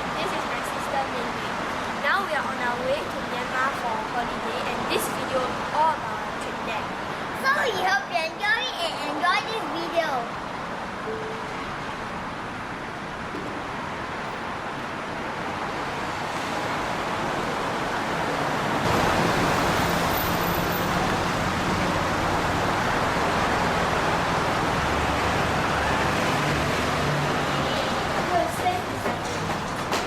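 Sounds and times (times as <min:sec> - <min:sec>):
vehicle ride noise: 0:00.0 - 0:30.0.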